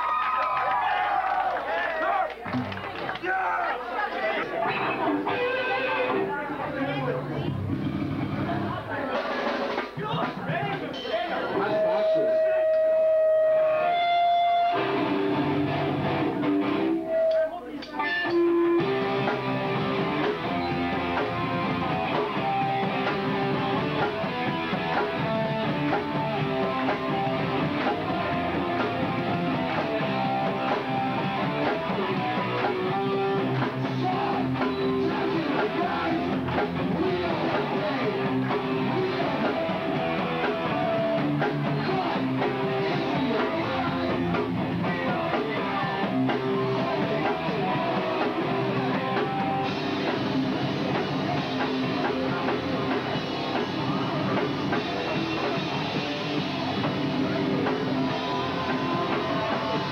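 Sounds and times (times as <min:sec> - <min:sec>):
punk band playing live: 0:02.4 - 0:03.2, 0:04.4 - 0:59.9.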